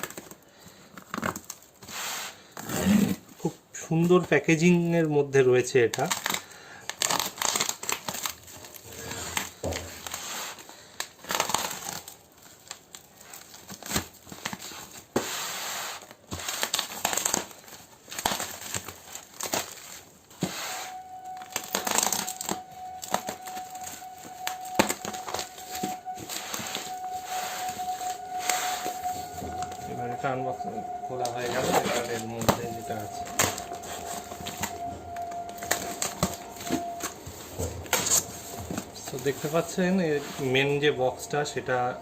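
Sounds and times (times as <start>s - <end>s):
packing tape tearing: 0.0s - 3.3s, 5.8s - 29.7s, 31.3s - 39.7s
cardboard rustling and crinkling: 0.0s - 41.9s.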